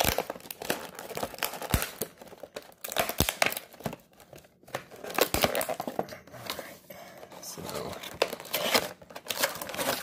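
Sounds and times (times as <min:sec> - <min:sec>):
plastic packaging crackling: 0:00.0 - 0:06.7, 0:07.4 - 0:10.0.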